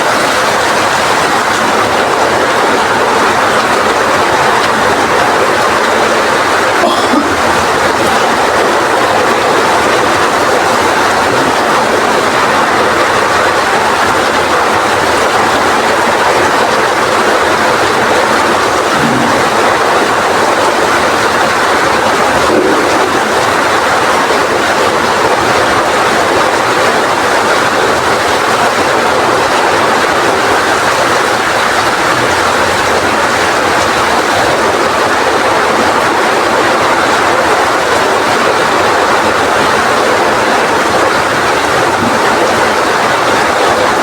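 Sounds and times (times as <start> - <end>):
rain pouring in strong wind: 0.0 - 44.0.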